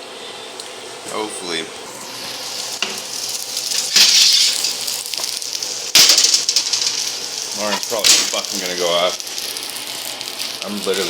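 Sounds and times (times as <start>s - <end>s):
steak sizzling in a pan: 1.9s - 11.0s.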